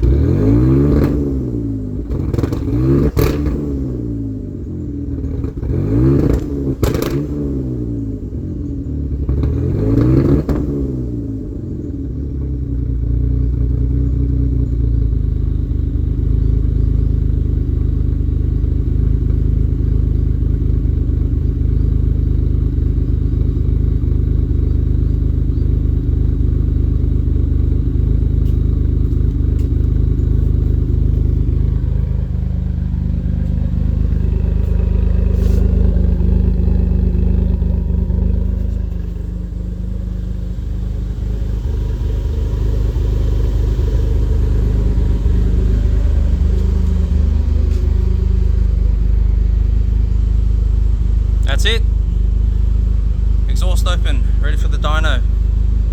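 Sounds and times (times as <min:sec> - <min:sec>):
car engine revving and idling: 0:00.0 - 0:55.9.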